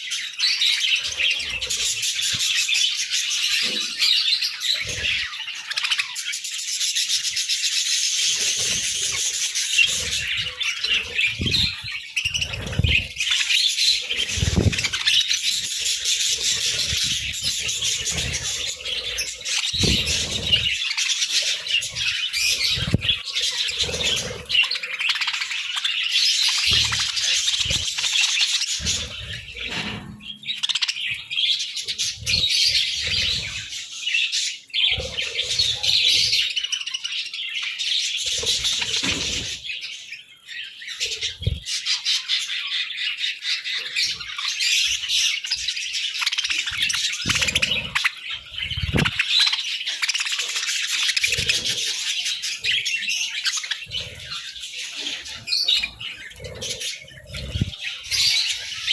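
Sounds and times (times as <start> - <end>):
budgerigars chattering: 0.0 - 58.9.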